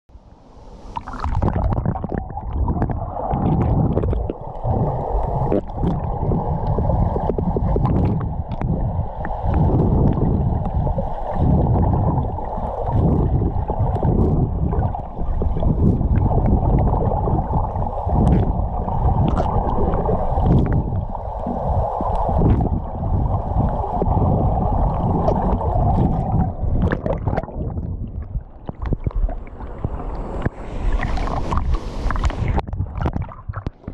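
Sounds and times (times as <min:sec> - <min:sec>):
muffled underwater water rush: 0:00.2 - 0:33.9
water splashing: 0:00.8 - 0:33.9
bubbles: 0:00.9 - 0:33.9.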